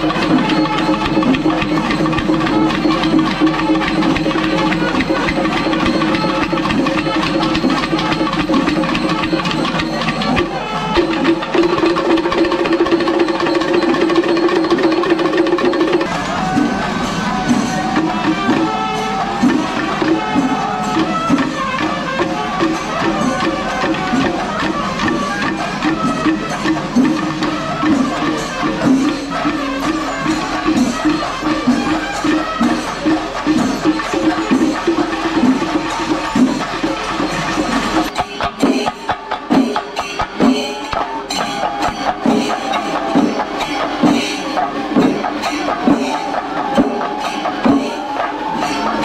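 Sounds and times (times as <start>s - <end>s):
fast stick strokes on drums: 0.0s - 49.0s
heavy drum beat: 0.0s - 49.0s
percussion strikes: 0.0s - 49.0s.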